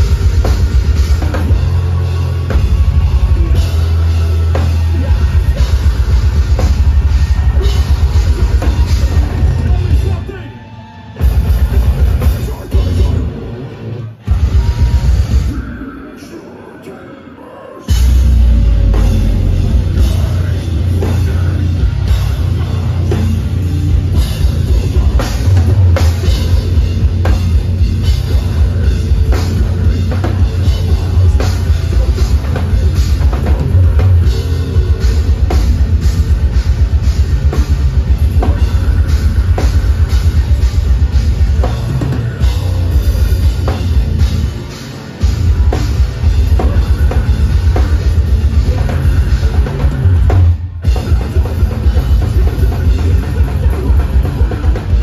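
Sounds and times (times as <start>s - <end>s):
fast driving drums: 0.0s - 16.3s, 17.9s - 55.0s
distorted guitars: 0.0s - 55.0s
heavy metal band playing live: 0.0s - 55.0s.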